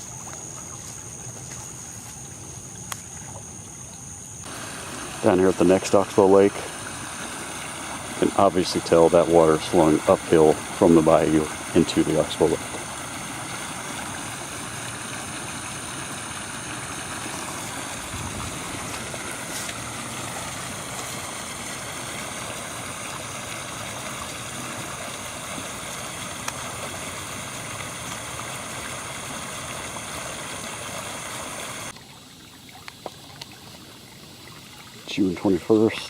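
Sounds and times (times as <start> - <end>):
floodwater rushing: 4.4 - 36.0.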